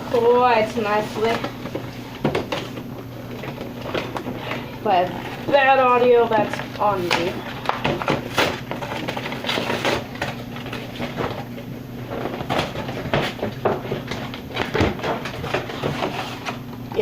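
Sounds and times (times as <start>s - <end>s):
packaging crinkling and rustling: 0.0s - 16.8s.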